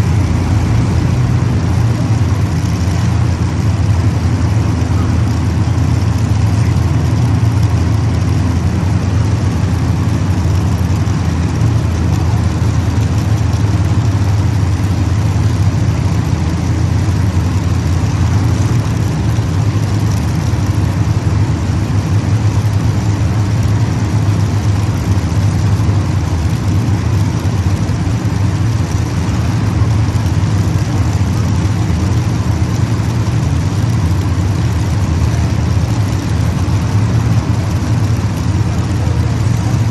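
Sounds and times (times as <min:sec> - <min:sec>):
race car engines droning: 0:00.0 - 0:39.9.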